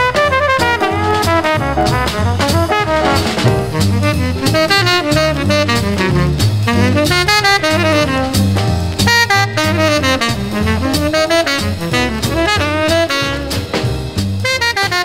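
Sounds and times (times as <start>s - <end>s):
drums with cymbal strokes: 0.0s - 15.0s
tenor saxophone: 0.0s - 15.0s
trumpet: 0.0s - 15.0s
walking bass: 0.0s - 15.0s.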